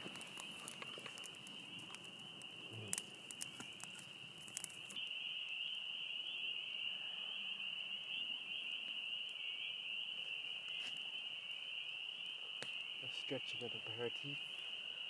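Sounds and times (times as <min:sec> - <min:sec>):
frogs peeping in chorus: 0:00.0 - 0:15.0.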